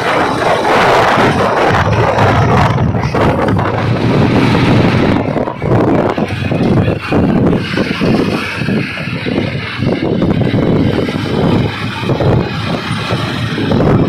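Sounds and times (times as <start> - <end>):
moving vehicle noise: 0.0 - 14.0
wind buffeting microphone: 0.0 - 14.0.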